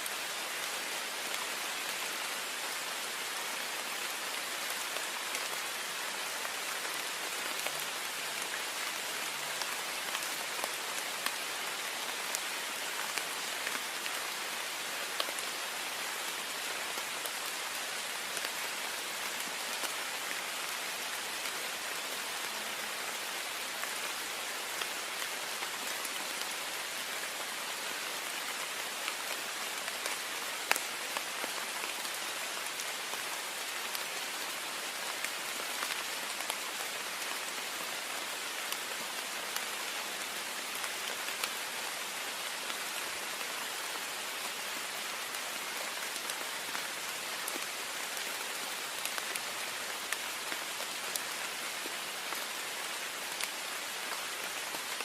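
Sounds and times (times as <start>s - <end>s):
heavy rain on a window: 0.0s - 55.0s.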